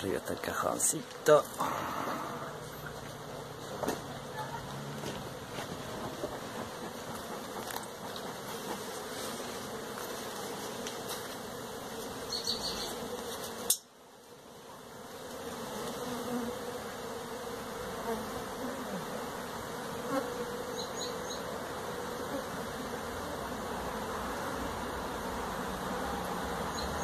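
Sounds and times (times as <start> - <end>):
honeybee colony buzzing: 0.0 - 27.0.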